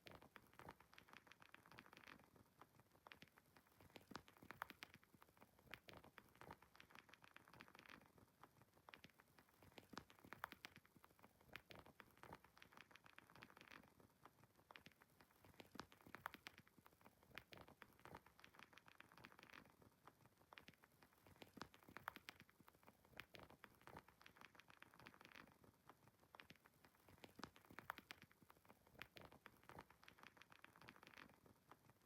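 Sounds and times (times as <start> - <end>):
fireplace fire crackling: 0.0 - 32.0.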